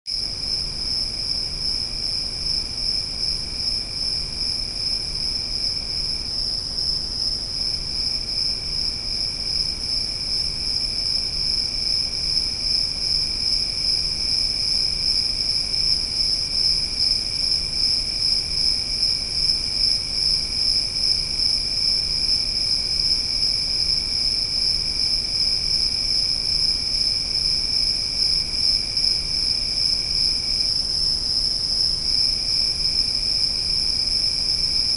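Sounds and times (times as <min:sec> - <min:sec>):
faint low insect trill: 0:00.1 - 0:34.9.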